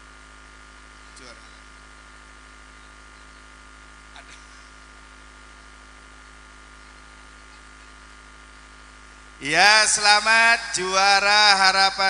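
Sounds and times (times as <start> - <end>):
electrical mains hum: 0.0 - 12.0
faint buzz of steady tones: 0.0 - 12.0.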